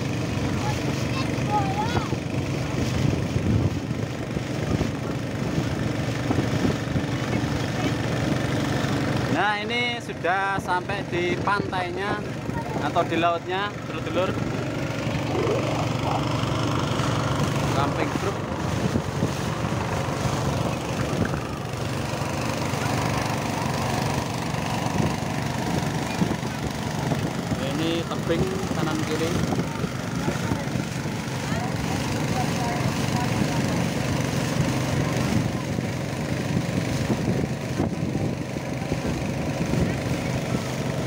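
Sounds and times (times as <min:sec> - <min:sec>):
boat motor droning: 0:00.0 - 0:41.0.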